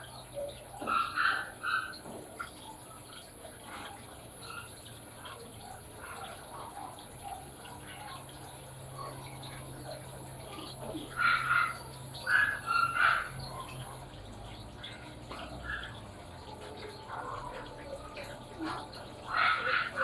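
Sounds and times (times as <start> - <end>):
washing machine low hum: 0.0 - 20.0
water dripping: 0.0 - 20.0
water trickling: 0.0 - 20.0.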